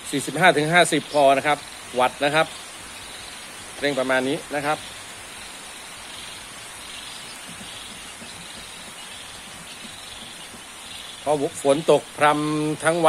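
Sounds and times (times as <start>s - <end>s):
light drizzle hissing: 0.0s - 13.0s.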